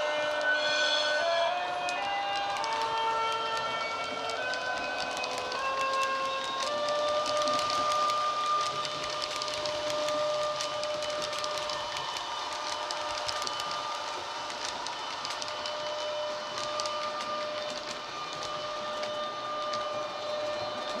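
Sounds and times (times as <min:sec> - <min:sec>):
electric train whine: 0:00.0 - 0:21.0.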